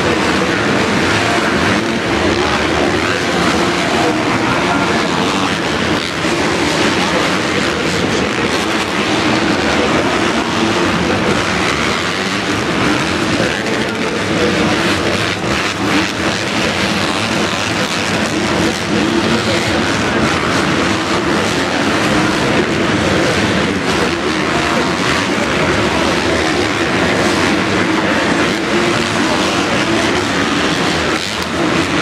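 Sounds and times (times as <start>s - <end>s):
motocross bikes racing: 0.0s - 32.0s.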